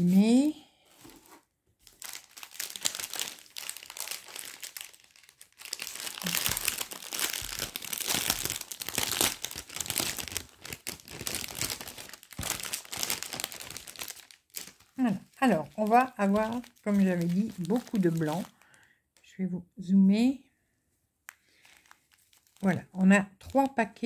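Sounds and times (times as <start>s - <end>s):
plastic bags crinkling: 1.0s - 18.9s, 21.3s - 23.9s.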